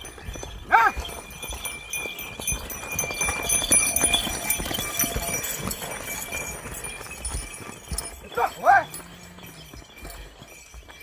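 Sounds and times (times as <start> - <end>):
faint jingling bells: 0.0 - 11.0
hoof thuds: 0.0 - 11.0
running footsteps: 0.0 - 11.0.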